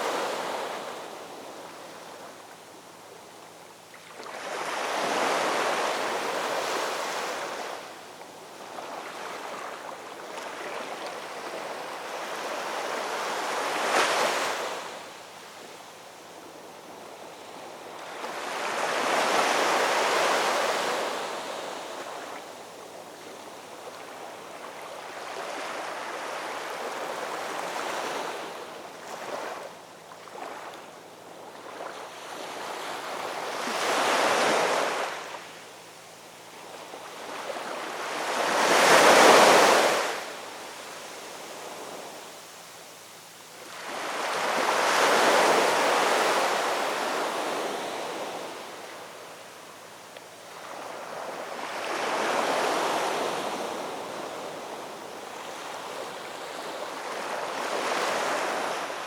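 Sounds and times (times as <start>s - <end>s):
ocean waves breaking on shore: 0.0s - 2.4s, 4.0s - 15.2s, 16.4s - 35.6s, 36.6s - 42.4s, 43.6s - 49.8s, 50.4s - 59.0s.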